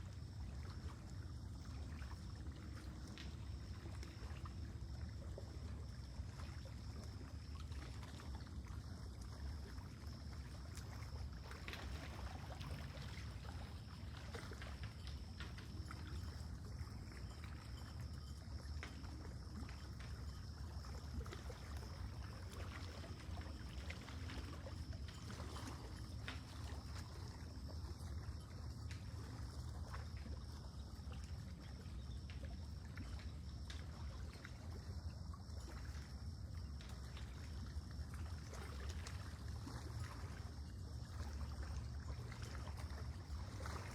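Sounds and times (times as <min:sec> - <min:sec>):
faint small splashes: 0:00.0 - 0:43.9
lake water lapping: 0:00.0 - 0:43.9.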